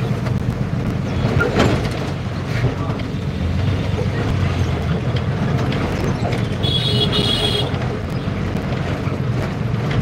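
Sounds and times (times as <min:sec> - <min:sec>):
bus ride rumble: 0:00.0 - 0:10.0.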